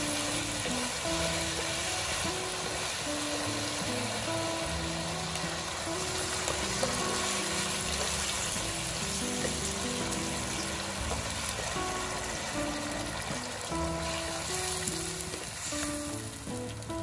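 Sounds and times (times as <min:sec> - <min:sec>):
background music of held notes: 0:00.0 - 0:17.0
ribs sizzling in a wok: 0:00.0 - 0:17.0.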